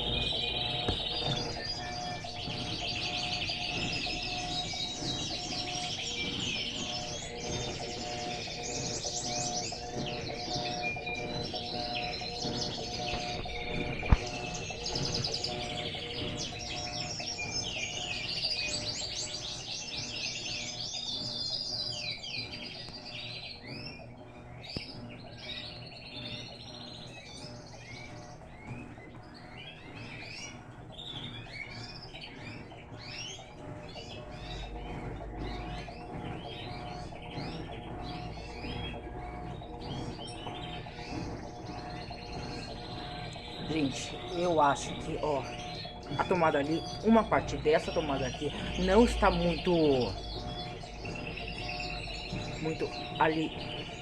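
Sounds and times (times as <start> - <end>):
birds chirping: 0.0 - 54.0
steady low hum: 0.0 - 54.0.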